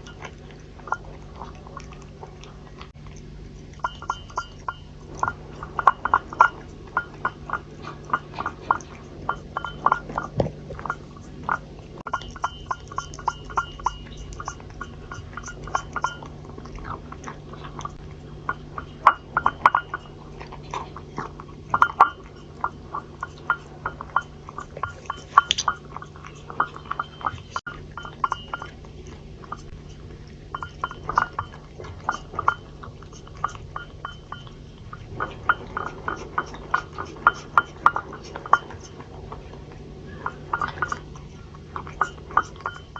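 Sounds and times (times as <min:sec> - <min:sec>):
cat lapping from a dish: 0:00.0 - 0:42.9.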